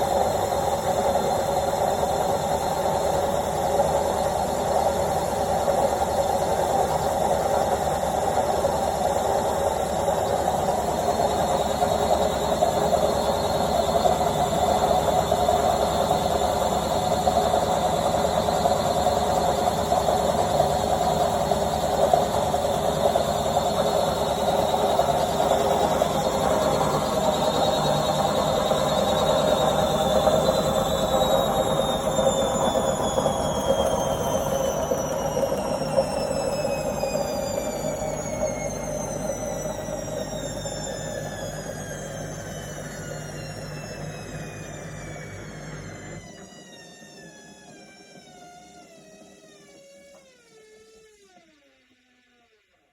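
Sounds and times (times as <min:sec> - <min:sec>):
high thin motor whine: 0:00.0 - 0:52.6
washing machine spinning: 0:00.0 - 0:52.7.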